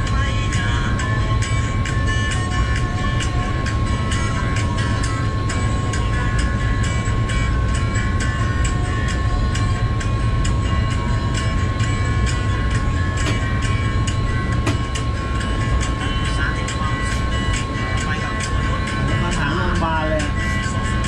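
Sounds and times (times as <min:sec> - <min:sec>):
high whine: 0:00.0 - 0:21.0
locomotive engine rumble: 0:00.0 - 0:21.0.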